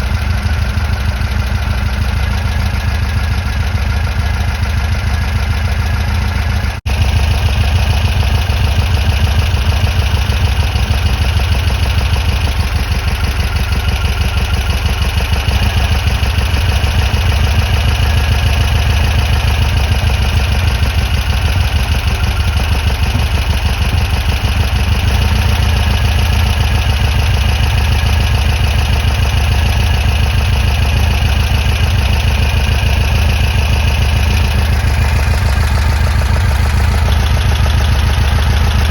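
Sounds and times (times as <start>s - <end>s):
van engine idling: 0.0s - 38.9s.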